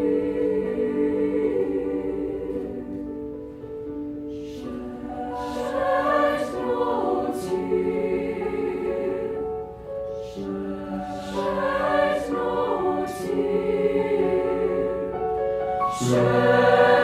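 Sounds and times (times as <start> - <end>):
choir singing in parts: 0.0 - 3.6, 4.3 - 17.0.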